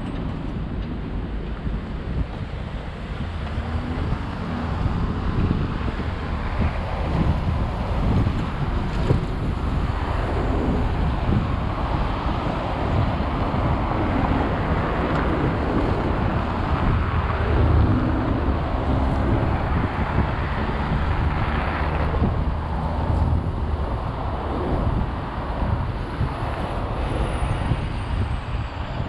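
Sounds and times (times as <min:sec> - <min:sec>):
vehicles passing: 0:00.0 - 0:29.0
wind on microphone: 0:00.0 - 0:29.0.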